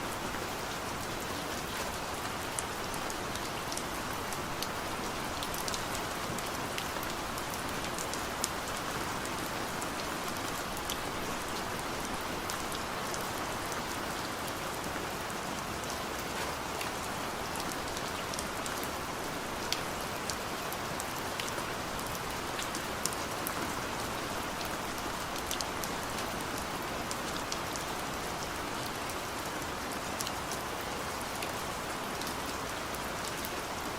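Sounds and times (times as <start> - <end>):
rain drops pattering: 0.0 - 33.9.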